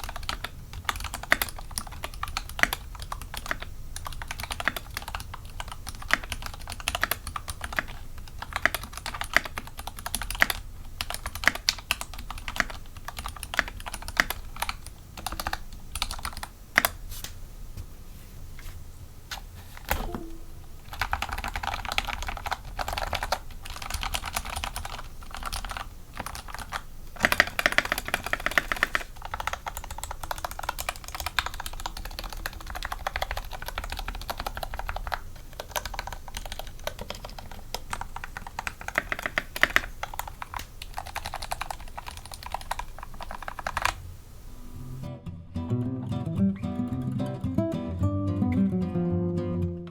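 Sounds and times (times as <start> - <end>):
mechanical keyboard typing: 0.0 - 17.0, 19.9 - 44.0.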